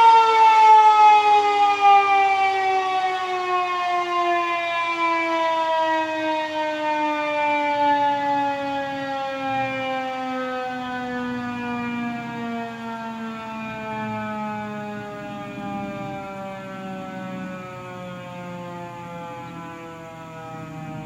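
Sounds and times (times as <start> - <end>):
warning siren winding down: 0.0 - 21.0.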